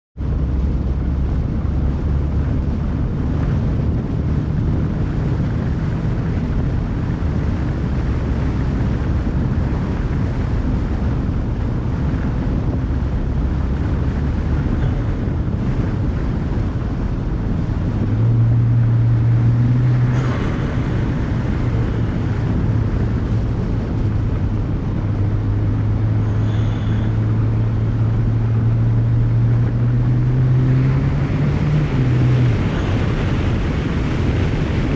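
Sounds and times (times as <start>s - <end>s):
car engine running: 0.2s - 34.9s
wind noise: 0.2s - 34.9s.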